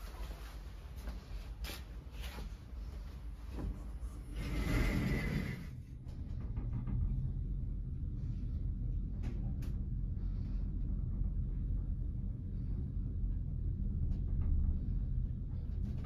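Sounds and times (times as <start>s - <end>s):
elevator low rumble: 0.0s - 16.0s.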